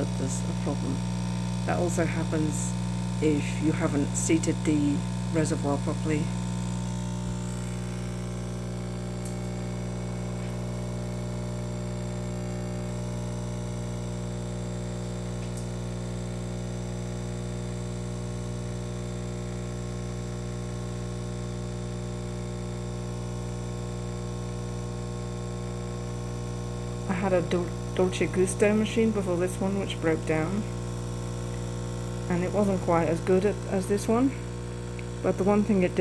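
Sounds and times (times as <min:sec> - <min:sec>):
coffee machine pump humming: 0:00.0 - 0:36.0.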